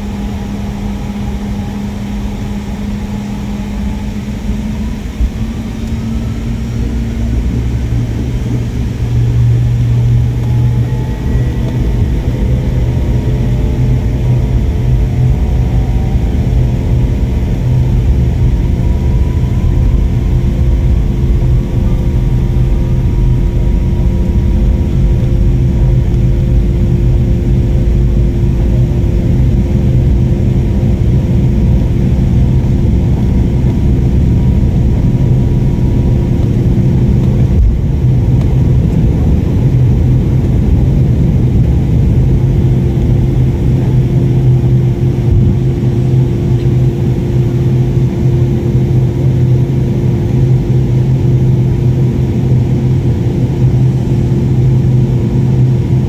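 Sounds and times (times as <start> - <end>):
jet engines at takeoff power: 0.0 - 56.0
wheels rumbling on runway: 0.0 - 56.0.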